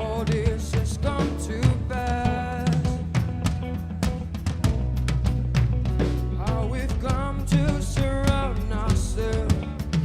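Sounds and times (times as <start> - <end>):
drum kit beat: 0.0 - 10.0
live band playing: 0.0 - 10.0.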